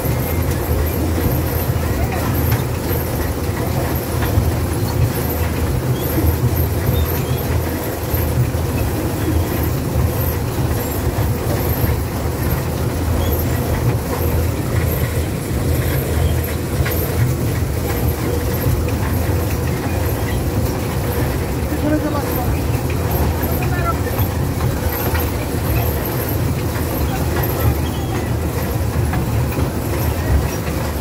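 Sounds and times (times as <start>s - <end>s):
constant hum: 0.0s - 31.0s
ride carriage rumbling on track: 0.0s - 31.0s.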